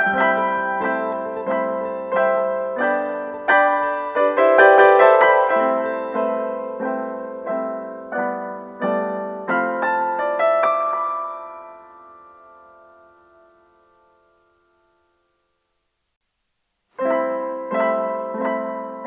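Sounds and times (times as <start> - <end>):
piano music: 0.0 - 15.2, 17.0 - 19.0.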